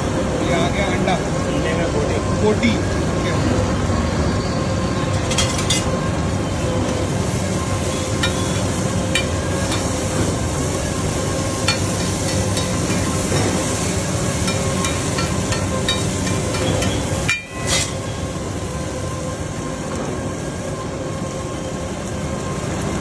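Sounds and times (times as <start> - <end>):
food frying in a pan: 0.0 - 23.0
steady rushing noise: 0.0 - 23.0.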